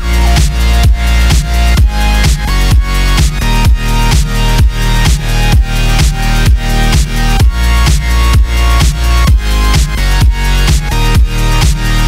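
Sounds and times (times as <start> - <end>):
kick drum beating: 0.0 - 11.8
electronic dance music: 0.0 - 12.0.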